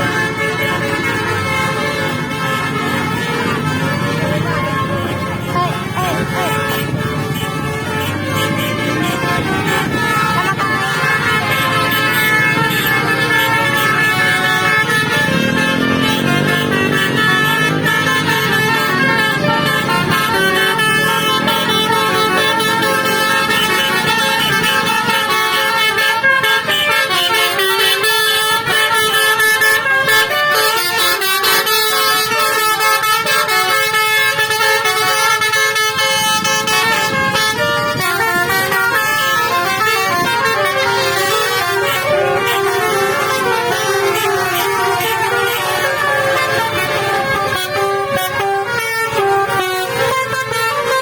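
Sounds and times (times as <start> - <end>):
musical air horn playing a tune: 0.0 - 51.0.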